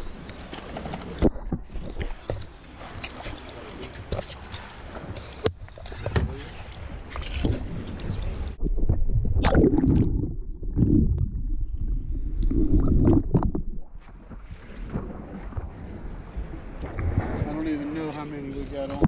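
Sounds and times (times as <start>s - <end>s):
underwater rumbling and gurgling: 0.0s - 3.7s, 4.5s - 19.0s
water sloshing and splashing: 0.0s - 19.0s.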